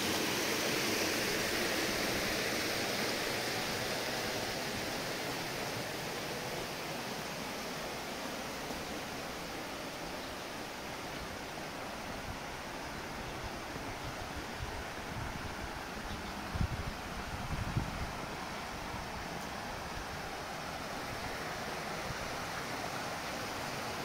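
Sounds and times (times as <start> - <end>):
water rushing along stone channel: 0.0 - 24.0.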